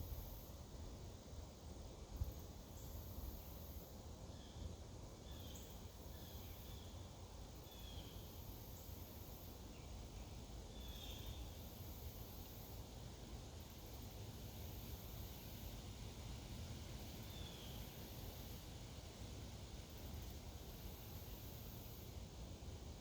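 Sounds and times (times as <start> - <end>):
high insect chorus: 1.7 - 15.9, 16.8 - 23.0.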